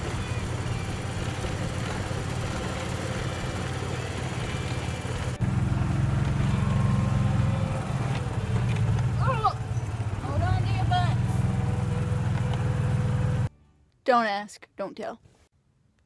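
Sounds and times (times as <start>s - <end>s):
golf cart engine running: 0.0s - 13.5s.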